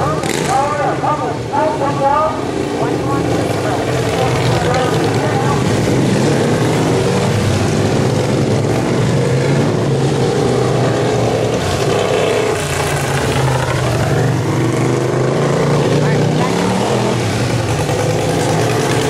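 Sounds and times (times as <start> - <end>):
racing lawn mower engines: 0.0 - 19.0.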